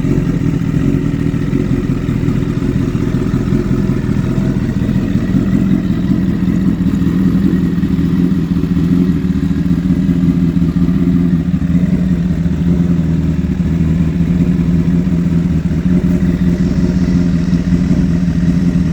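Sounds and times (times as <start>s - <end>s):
motorcycle engine running steadily: 0.0s - 18.9s.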